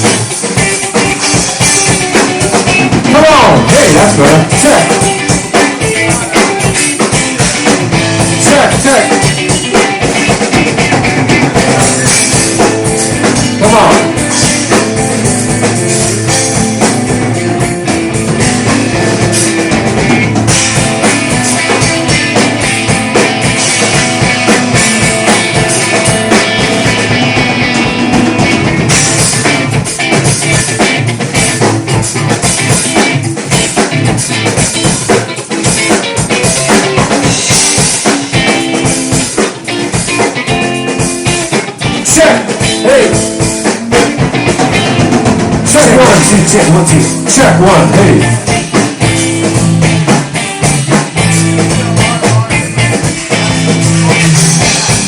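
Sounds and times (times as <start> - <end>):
busy drumming: 0.0 - 55.0
rock band playing live: 0.0 - 55.0.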